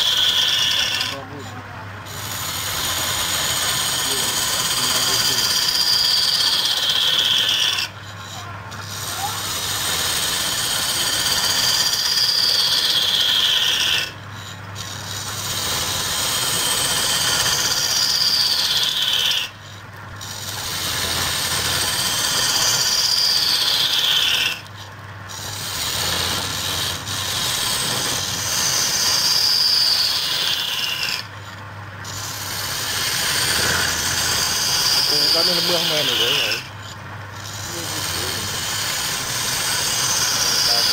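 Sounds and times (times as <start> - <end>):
chisel scraping wood on lathe: 0.0 - 40.9.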